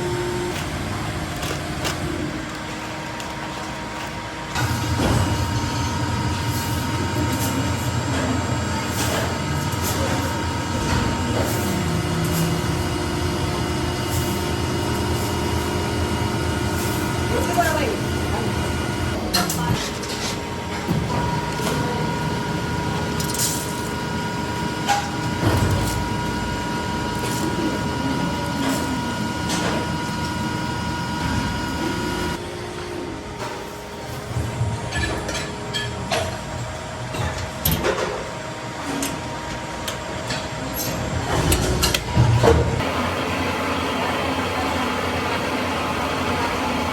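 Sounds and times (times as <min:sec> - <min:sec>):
factory machinery rumble: 0:00.0 - 0:46.9.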